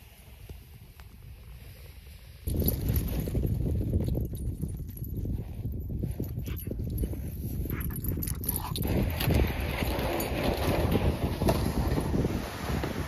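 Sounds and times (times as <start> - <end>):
wind buffeting microphone: 2.4 - 13.0.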